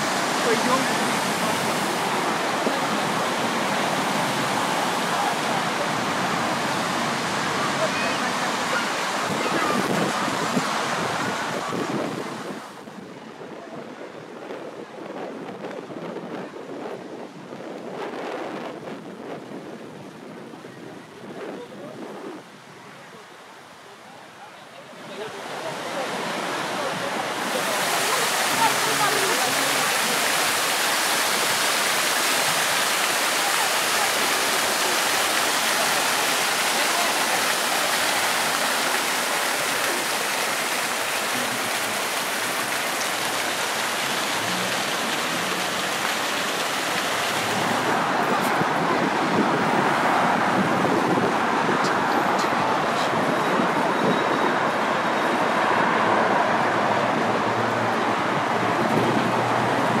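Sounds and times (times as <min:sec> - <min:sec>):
fountain splashing into basin: 0:00.0 - 0:12.9, 0:23.8 - 1:00.0
road traffic: 0:00.0 - 0:13.0, 0:22.8 - 1:00.0
voices of passers-by: 0:00.0 - 0:15.0, 0:20.0 - 1:00.0.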